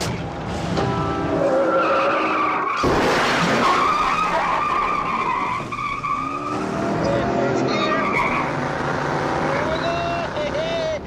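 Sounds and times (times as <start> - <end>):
tires squealing: 1.3 - 10.7.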